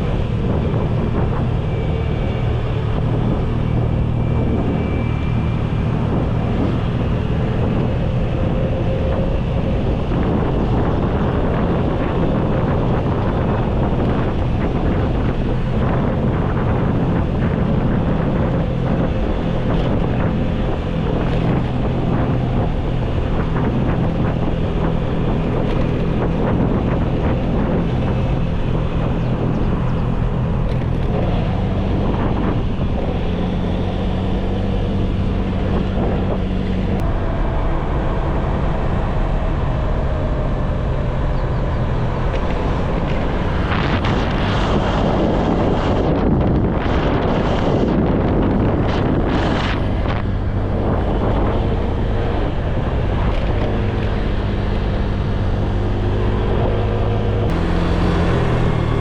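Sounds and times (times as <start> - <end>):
engine running: 0.0 - 59.0
wind buffeting microphone: 0.0 - 59.0.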